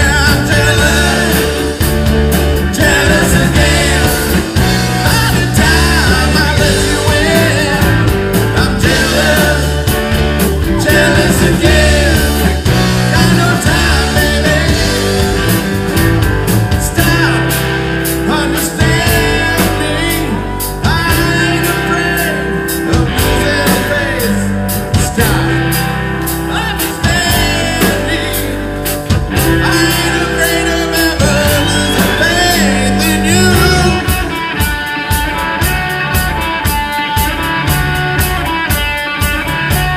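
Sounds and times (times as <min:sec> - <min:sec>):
lead singer singing: 0:00.0 - 0:15.7, 0:16.7 - 0:35.7
live rock band: 0:00.0 - 0:39.9.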